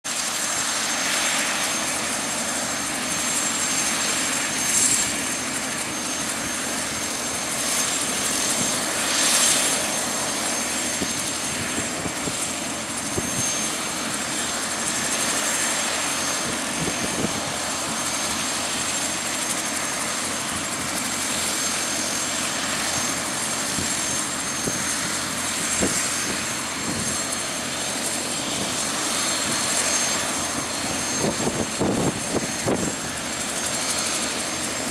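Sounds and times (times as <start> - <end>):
small plane engine running: 0.0 - 34.9.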